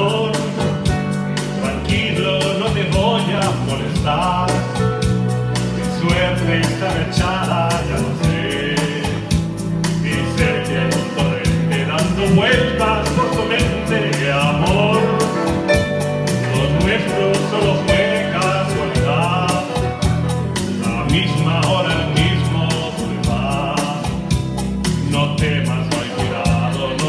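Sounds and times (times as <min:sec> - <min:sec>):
electronic keyboard chords: 0:00.0 - 0:27.0
man singing into a microphone: 0:00.0 - 0:27.0.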